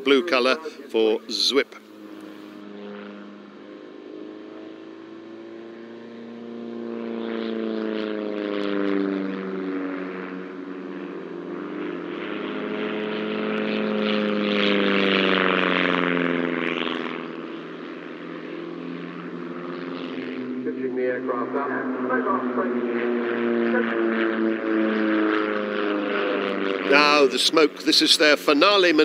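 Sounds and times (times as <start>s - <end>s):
propeller aircraft engines droning: 0.0s - 29.0s.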